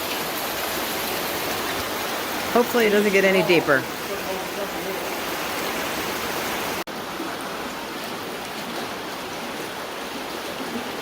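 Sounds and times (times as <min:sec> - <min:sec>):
shallow floodwater rushing: 0:00.0 - 0:11.0.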